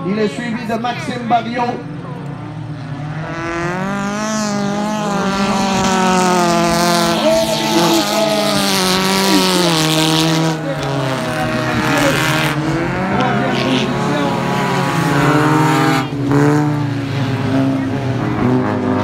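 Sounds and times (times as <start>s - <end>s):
stock car engines running hard: 0.0s - 19.0s.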